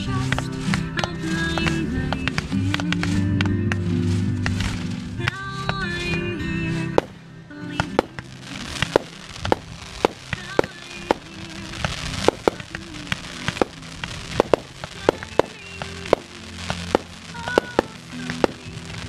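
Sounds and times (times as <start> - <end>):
fireworks launching and bursting: 0.0 - 19.0
music playing: 0.0 - 19.0.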